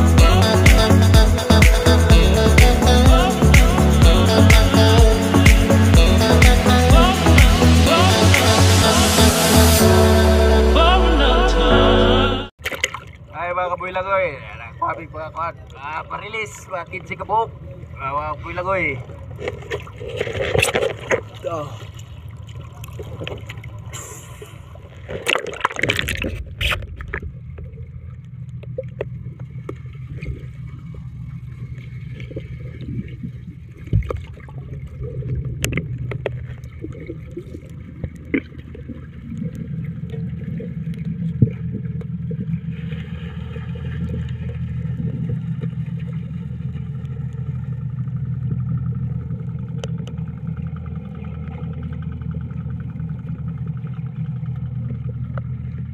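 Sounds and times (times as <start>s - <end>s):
water sloshing and gurgling: 0.0s - 10.8s, 12.5s - 55.9s
boat engine drone underwater: 0.0s - 55.9s.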